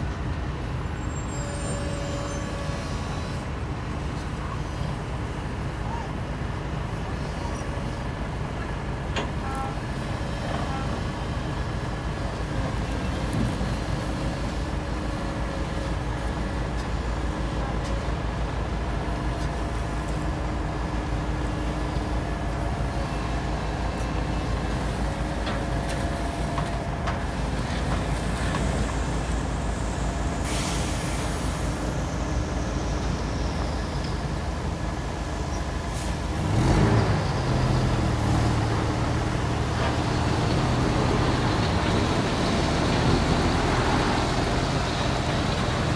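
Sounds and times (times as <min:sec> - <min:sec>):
excavator diesel engine running: 0:03.0 - 0:45.9.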